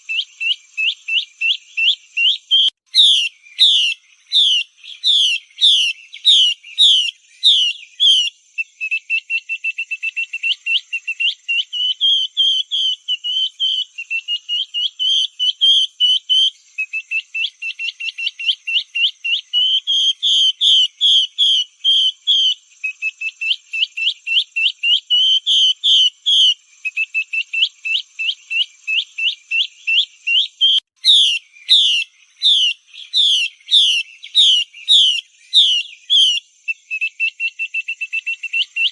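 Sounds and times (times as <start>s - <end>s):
thrush whistled calls: 0.0s - 38.9s.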